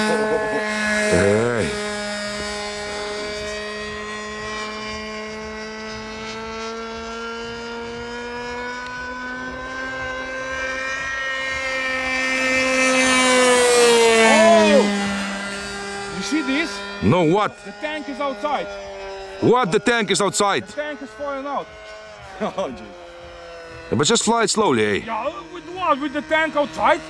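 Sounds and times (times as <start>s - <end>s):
model plane engine buzzing: 0.0s - 27.0s.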